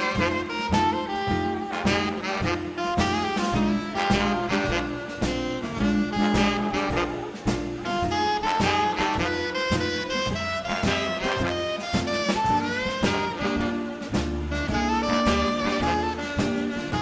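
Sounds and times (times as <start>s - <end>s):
brass lines: 0.0s - 17.0s
drums keeping a steady beat: 0.0s - 17.0s
live swing band playing: 0.0s - 17.0s
saxophone: 0.0s - 17.0s
upright bass: 0.0s - 17.0s.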